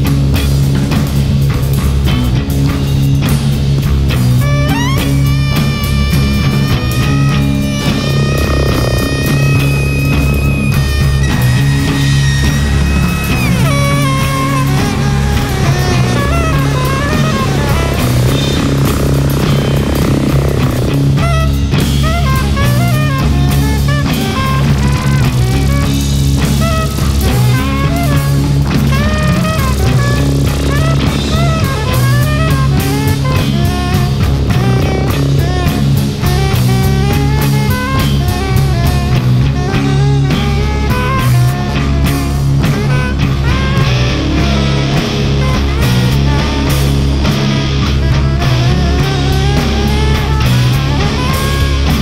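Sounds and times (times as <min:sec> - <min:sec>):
busy drum kit: 0:00.0 - 0:52.0
jazz-rock band playing: 0:00.0 - 0:52.0
low bass line: 0:00.0 - 0:52.0
lead instrument sliding melody: 0:04.4 - 0:52.0.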